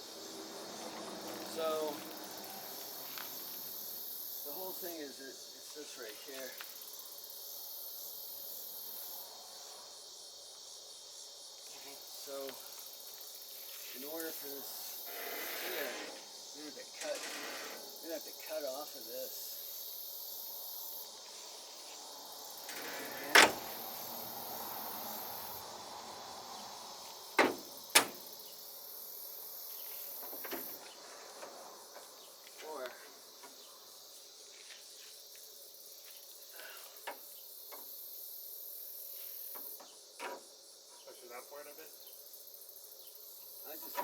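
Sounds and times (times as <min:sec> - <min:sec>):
insects chirping trill: 0:00.0 - 0:44.0.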